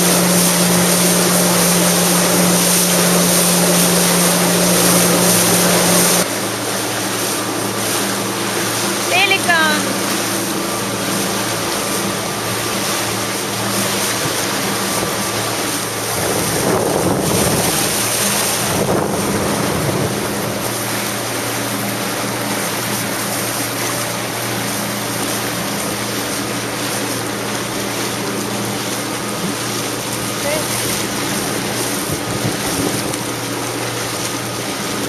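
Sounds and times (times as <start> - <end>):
jet ski engine humming: 0.0 - 35.0
wind and water rushing: 0.0 - 35.0.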